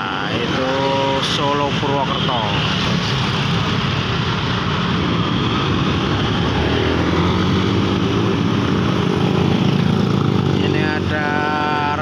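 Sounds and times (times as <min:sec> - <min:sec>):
road traffic: 0:00.0 - 0:12.0
motorcycle passing close: 0:02.1 - 0:12.0.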